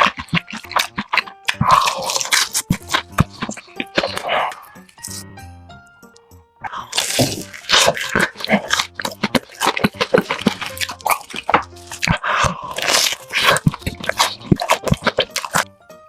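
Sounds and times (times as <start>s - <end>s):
crunching and chewing crispy food: 0.0s - 5.2s, 6.6s - 15.9s
background music: 0.0s - 16.0s.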